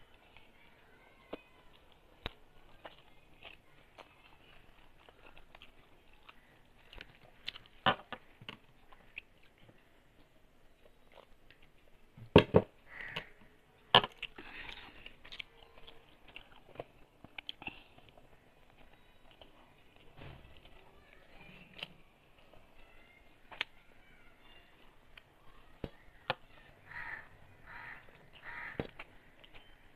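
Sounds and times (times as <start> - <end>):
person chewing food: 0.0 - 12.2, 12.8 - 29.9.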